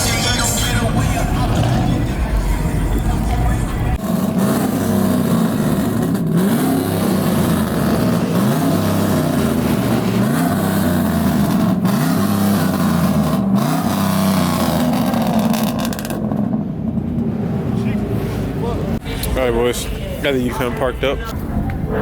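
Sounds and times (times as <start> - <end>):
truck engine revving: 0.0 - 19.2.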